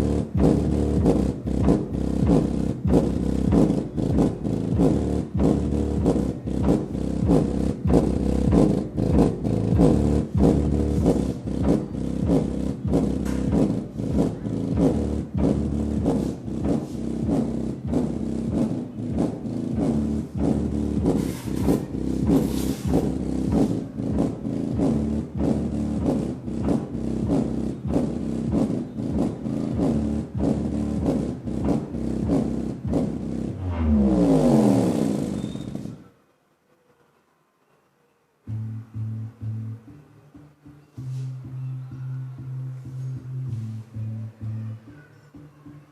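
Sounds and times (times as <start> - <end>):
bass-heavy music through subwoofer: 0.0 - 36.1, 38.5 - 45.9.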